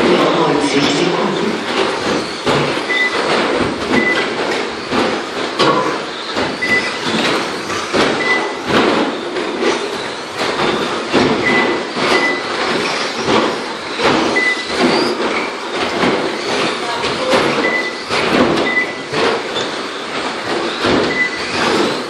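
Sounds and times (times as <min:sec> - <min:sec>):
clattering knocks of trucks landing: 0:00.0 - 0:22.0
tyres rumbling over carpet: 0:00.0 - 0:22.0.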